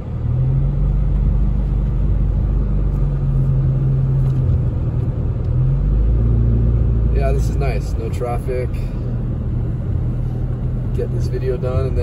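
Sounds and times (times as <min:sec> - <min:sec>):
car engine rumble: 0:00.0 - 0:12.0
tyres on wet road: 0:00.0 - 0:12.0.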